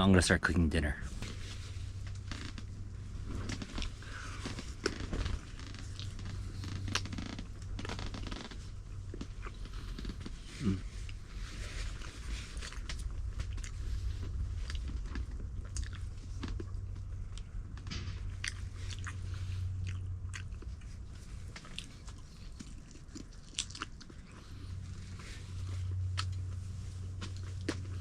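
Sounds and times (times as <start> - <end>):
low steady hum: 0.0 - 28.0
chewing and crunching: 1.3 - 28.0.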